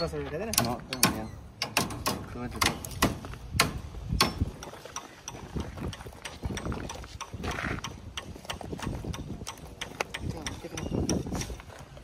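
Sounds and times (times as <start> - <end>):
steel rebar clinking and rattling: 0.0 - 11.9.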